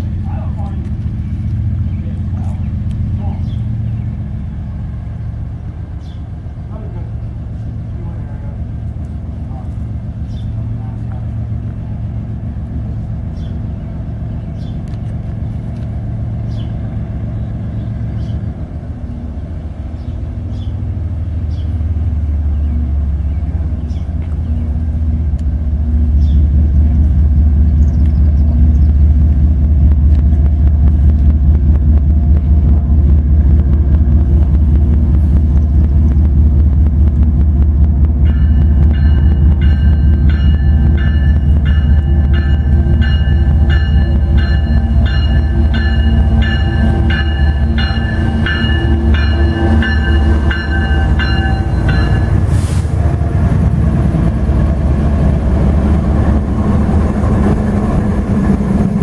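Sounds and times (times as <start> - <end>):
locomotive engines rumbling: 0.0 - 59.0.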